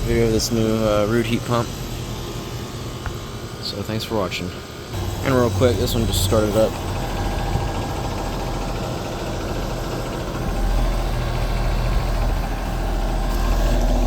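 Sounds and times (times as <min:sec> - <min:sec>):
fan motor rattling: 0:00.0 - 0:14.0
heat pump compressor humming: 0:00.0 - 0:14.0.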